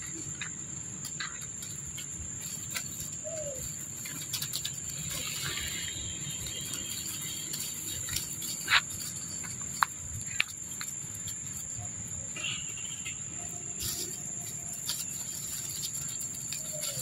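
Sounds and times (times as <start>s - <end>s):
rustles of dry leaf litter: 0.0s - 17.0s.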